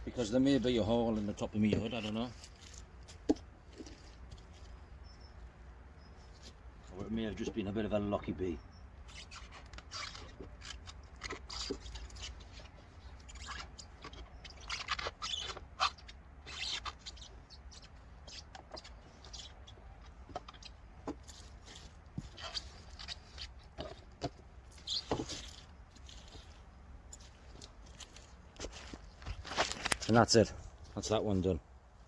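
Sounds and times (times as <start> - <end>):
rustling and scraping of beehive: 0.0 - 31.6.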